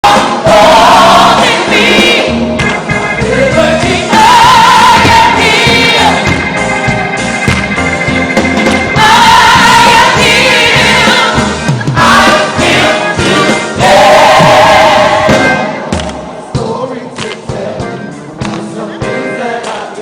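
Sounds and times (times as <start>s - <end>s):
choir singing gospel: 0.0s - 20.0s
instrumental accompaniment: 0.0s - 20.0s.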